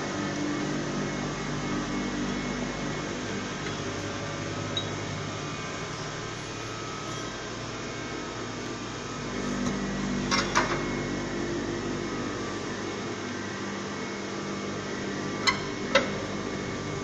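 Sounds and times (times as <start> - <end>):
veneer slicer mechanical hum: 0.0 - 17.0.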